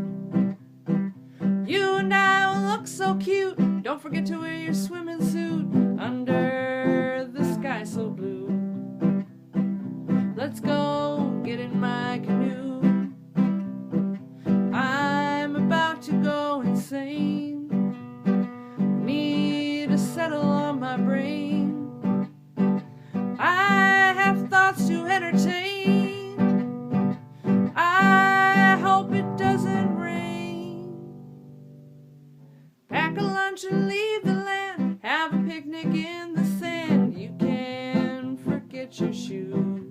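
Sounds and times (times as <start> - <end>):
acoustic guitar strumming: 0.0 - 39.9
person singing: 1.6 - 8.6, 10.2 - 13.2, 14.7 - 22.3, 23.3 - 31.3, 32.9 - 39.9.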